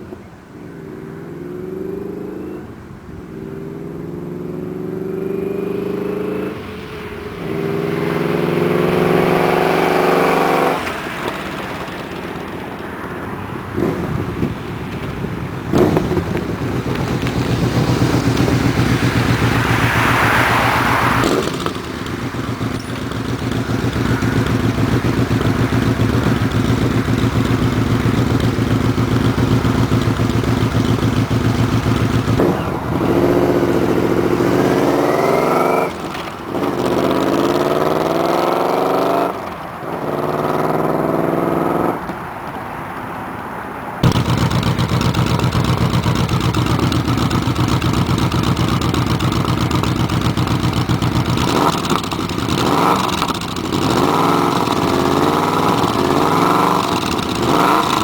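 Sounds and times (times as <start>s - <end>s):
motorcycle engine revving and idling: 0.0s - 42.2s, 44.0s - 58.0s.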